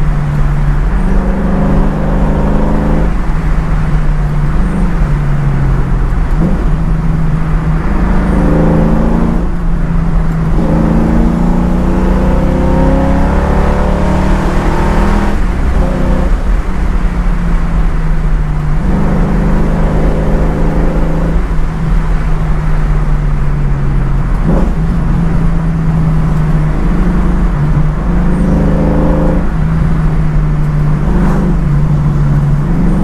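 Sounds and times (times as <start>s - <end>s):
car engine revving under way: 0.0s - 33.0s.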